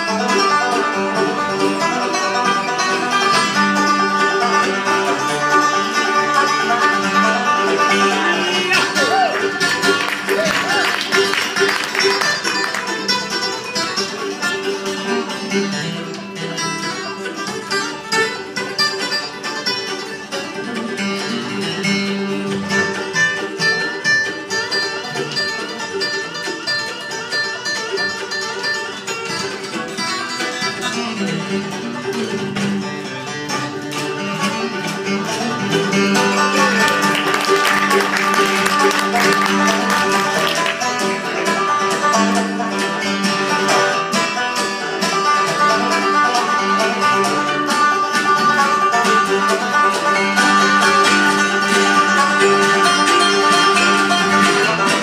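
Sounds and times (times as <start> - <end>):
bluegrass string band playing: 0.0 - 55.0.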